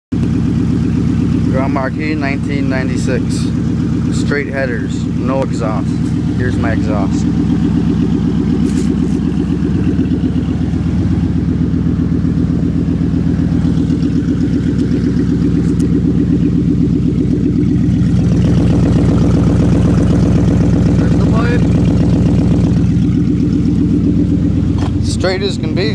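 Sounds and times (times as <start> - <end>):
loud car engine idling: 0.1 - 25.9.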